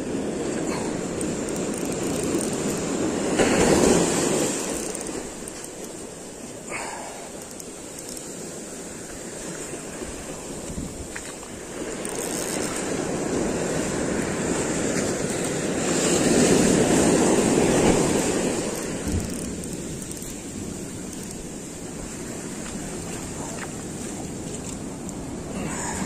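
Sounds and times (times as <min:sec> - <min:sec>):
ocean surf on sandy beach: 0:00.0 - 0:26.0.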